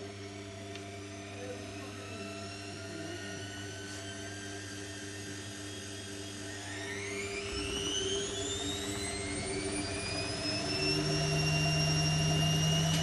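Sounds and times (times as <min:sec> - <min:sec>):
washing machine spin whine: 0:00.0 - 0:13.0.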